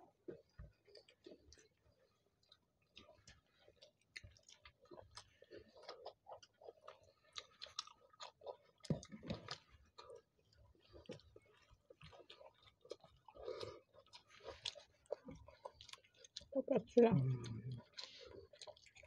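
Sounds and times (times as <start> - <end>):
chewing and mouth smacking: 0.2 - 19.0.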